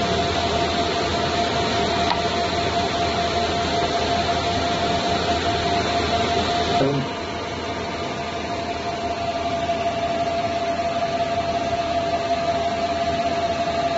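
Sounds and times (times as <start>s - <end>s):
machine hum with whine: 0.0s - 13.9s.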